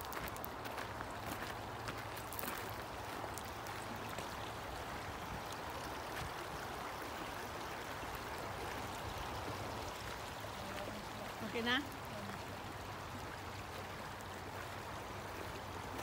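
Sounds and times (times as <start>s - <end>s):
river flowing over gravel: 0.0s - 16.0s.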